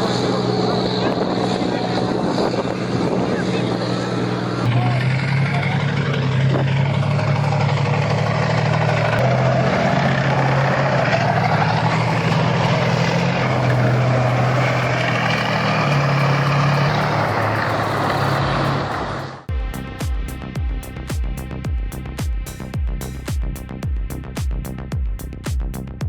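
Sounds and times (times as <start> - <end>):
tank engine running: 0.0 - 25.5.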